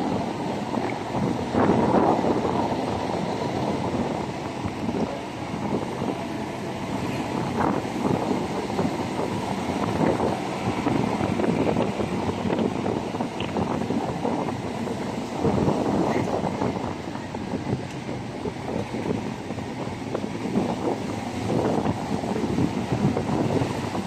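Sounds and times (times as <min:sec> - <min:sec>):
vehicle running rumble: 0:00.0 - 0:24.0
wind buffeting microphone: 0:00.0 - 0:24.0.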